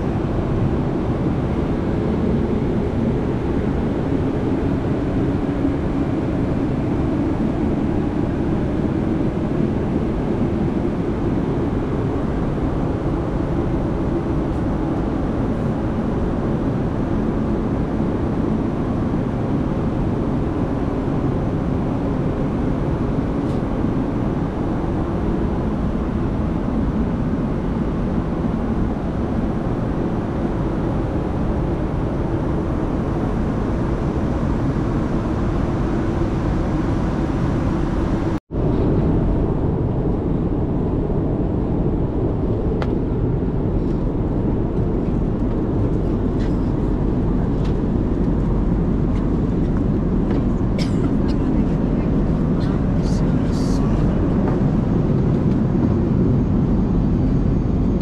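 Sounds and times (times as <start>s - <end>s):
airplane cabin engine noise: 0.0s - 58.0s.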